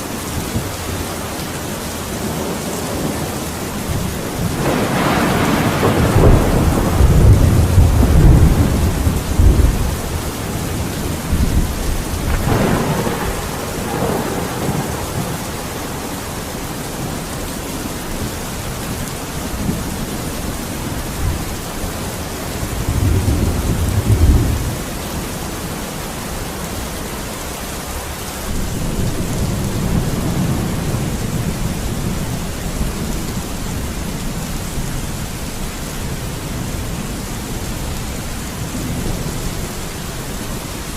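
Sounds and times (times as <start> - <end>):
steady rain: 0.0 - 40.9
rolling thunder rumble: 2.2 - 17.3, 18.1 - 25.3, 28.5 - 40.9.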